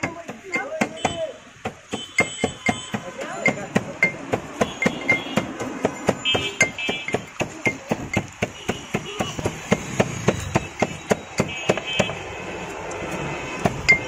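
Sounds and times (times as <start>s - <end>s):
rapid sharp knocking: 0.0s - 12.2s, 13.6s - 14.0s.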